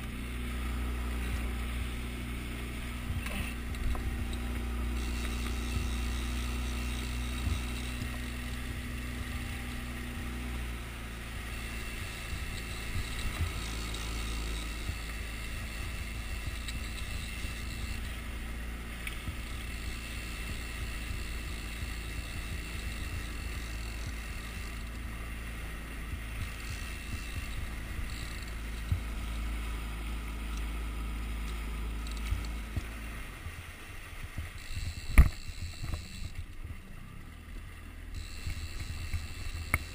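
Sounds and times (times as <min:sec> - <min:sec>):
outboard motor running: 0:00.0 - 0:39.9
water rushing past hull: 0:00.0 - 0:39.9.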